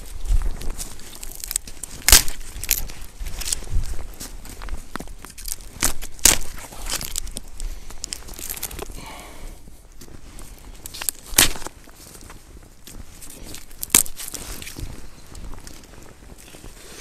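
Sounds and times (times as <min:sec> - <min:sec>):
dry leaves crunching underfoot: 0:00.0 - 0:09.2, 0:09.9 - 0:17.0
dry sticks snapping and knocking: 0:00.3 - 0:09.0, 0:10.6 - 0:16.6.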